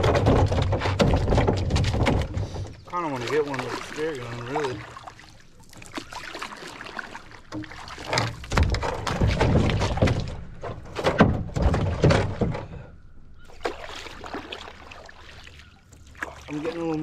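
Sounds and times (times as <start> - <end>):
paddle strokes splashing water: 0.0 - 12.4, 13.4 - 17.0
paddle knocking hull: 0.0 - 17.0.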